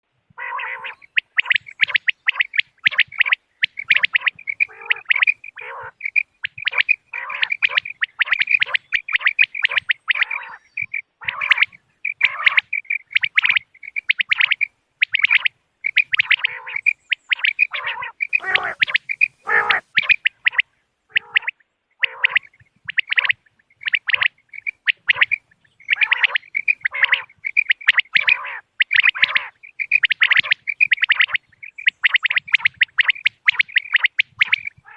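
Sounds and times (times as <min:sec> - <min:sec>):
quail calling: 0:00.3 - 0:34.9.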